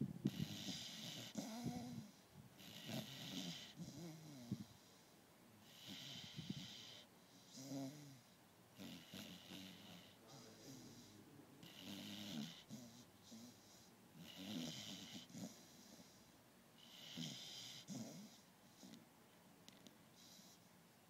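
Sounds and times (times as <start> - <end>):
dog snoring with a hiss: 0.0 - 19.1, 19.7 - 20.7.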